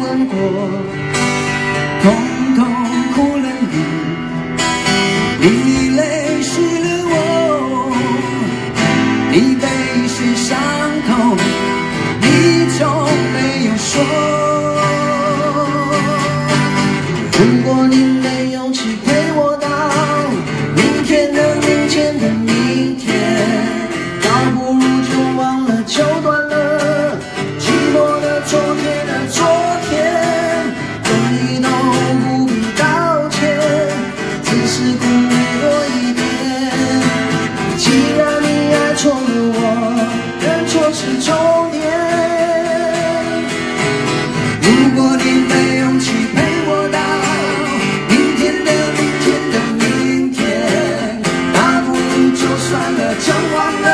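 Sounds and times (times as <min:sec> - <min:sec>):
acoustic guitars strumming: 0:00.0 - 0:53.9
man singing: 0:00.0 - 0:53.9.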